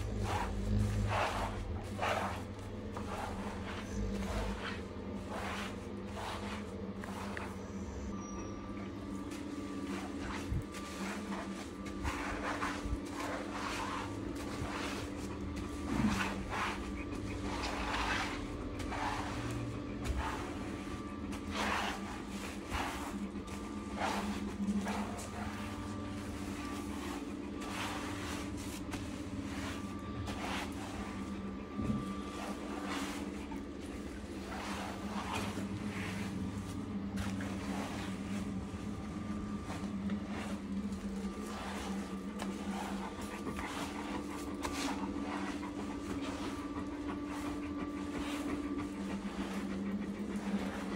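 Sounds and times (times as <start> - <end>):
glove scrubbing wet dog coat: 0.0 - 50.9
steady low hum: 0.0 - 50.9.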